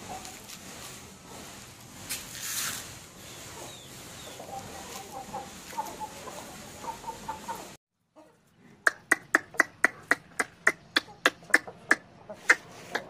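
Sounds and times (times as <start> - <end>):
chickens clucking: 0.0 - 2.1, 3.1 - 8.3, 8.9 - 13.0.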